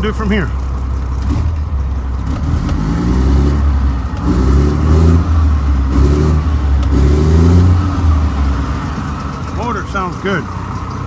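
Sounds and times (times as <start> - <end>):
truck diesel engine revving: 0.0 - 11.0.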